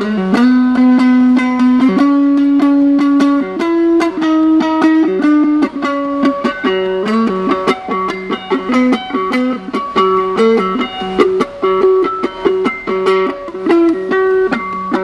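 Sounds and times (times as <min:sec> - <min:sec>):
tapped acoustic guitar notes: 0:00.0 - 0:15.0.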